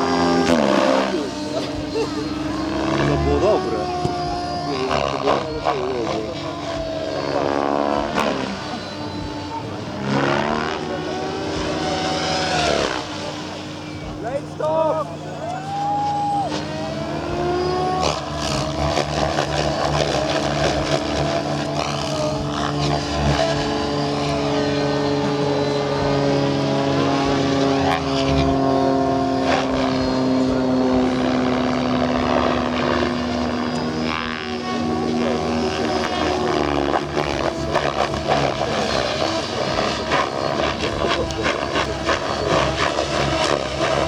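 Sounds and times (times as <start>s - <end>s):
model helicopter rotor whine: 0.0s - 44.0s.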